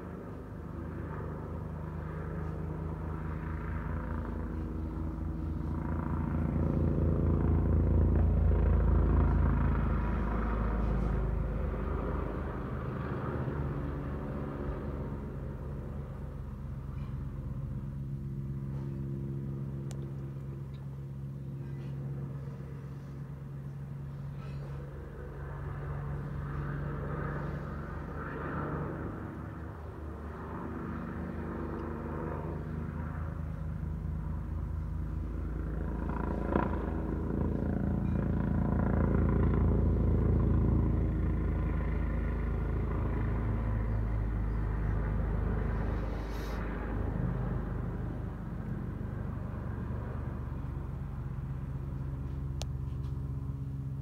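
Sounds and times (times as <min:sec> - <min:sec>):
helicopter rotor drone: 0:00.0 - 0:54.0.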